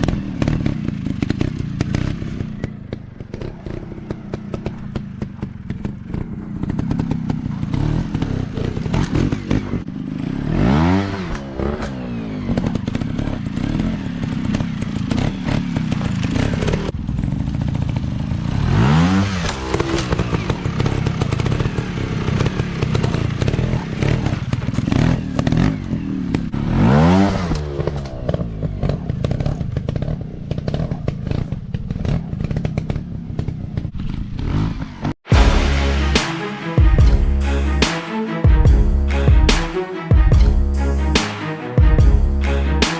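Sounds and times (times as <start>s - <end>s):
motocross bike engines revving: 0.0s - 36.3s.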